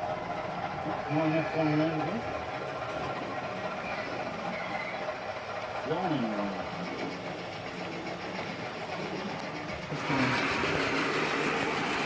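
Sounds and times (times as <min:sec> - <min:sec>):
model trains running hum: 0:00.0 - 0:12.0.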